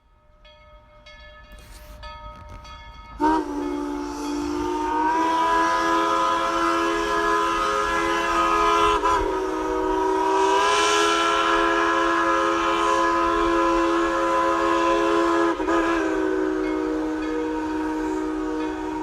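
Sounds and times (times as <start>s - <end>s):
steam locomotive chime whistle: 0.0s - 19.0s.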